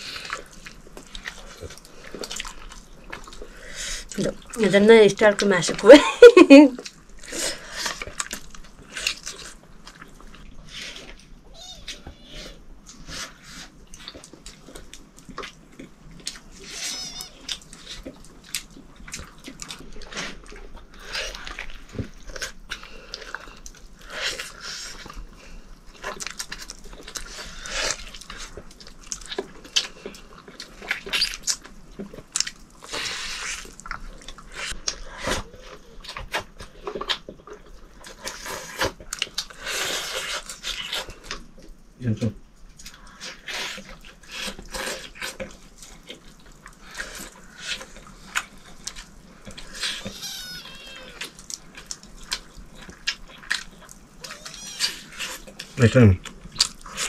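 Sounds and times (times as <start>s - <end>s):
wet chewing and lip-smacking: 0.0s - 5.9s, 6.7s - 57.0s.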